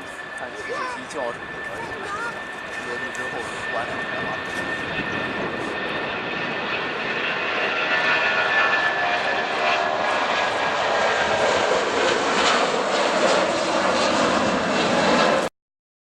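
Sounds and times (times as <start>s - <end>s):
jet engine roar with whine: 0.0s - 15.5s.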